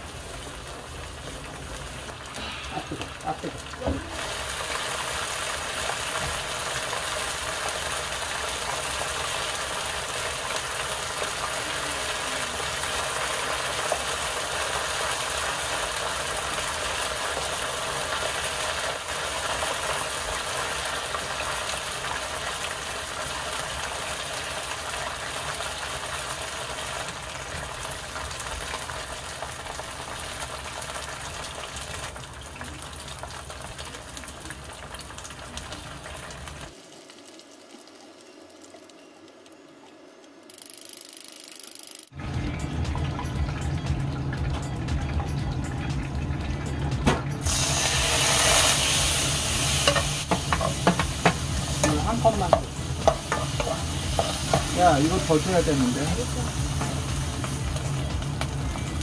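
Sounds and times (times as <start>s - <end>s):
batter deep-frying in oil: 0.0s - 59.0s.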